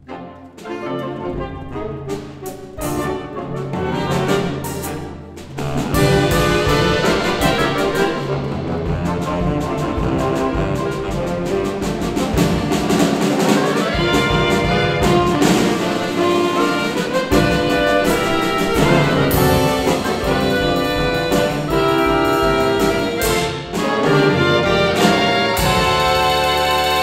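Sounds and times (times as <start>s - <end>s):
saxophone ensemble playing: 0.0s - 27.0s
drum kit: 1.4s - 27.0s.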